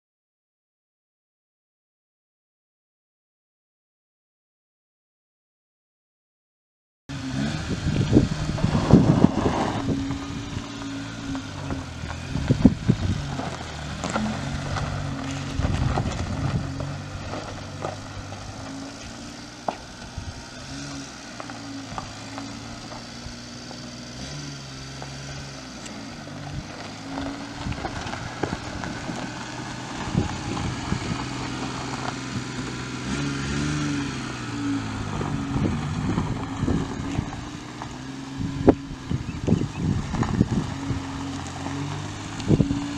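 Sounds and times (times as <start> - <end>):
truck engine revving: 7.1 - 42.9.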